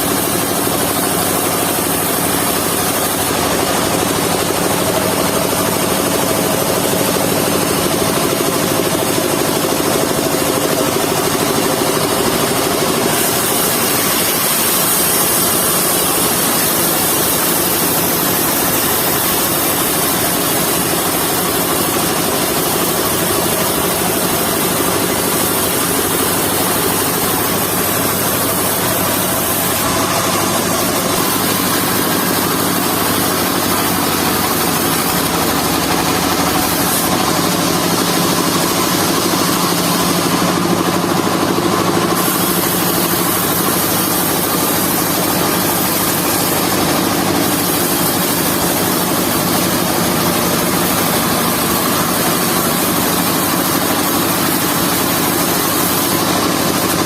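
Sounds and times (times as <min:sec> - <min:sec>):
saw blade hissing through wood: 0:00.0 - 0:40.6, 0:42.0 - 0:57.0
sawmill engine running: 0:00.0 - 0:57.0.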